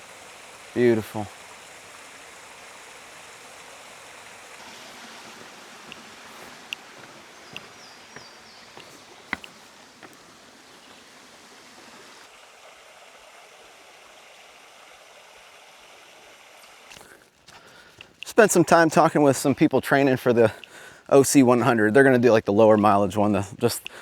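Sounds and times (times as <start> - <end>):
small stream flowing: 0.0 - 24.0.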